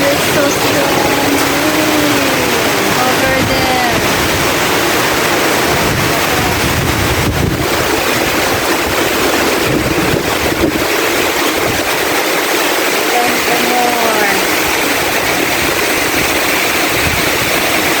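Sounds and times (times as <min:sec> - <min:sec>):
heavy rain pouring: 0:00.0 - 0:18.0
wind buffeting microphone: 0:00.0 - 0:18.0.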